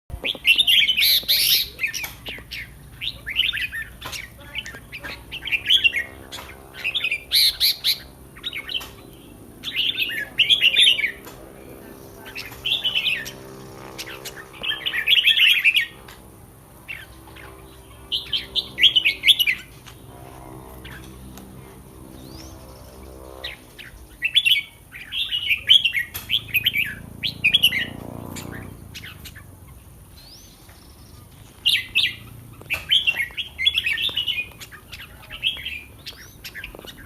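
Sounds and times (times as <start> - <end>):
bird singing warbling phrases: 0.1 - 20.2, 22.0 - 37.0.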